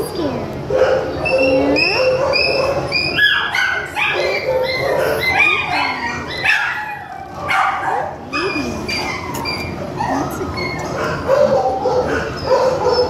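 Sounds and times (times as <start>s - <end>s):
dogs barking and yelping: 0.6s - 13.0s.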